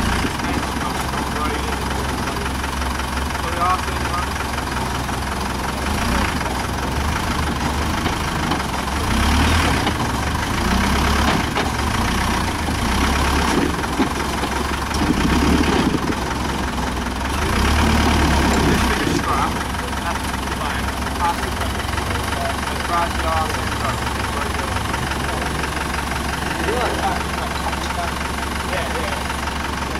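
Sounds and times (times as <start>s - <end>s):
off-road engine idling: 0.0s - 29.9s.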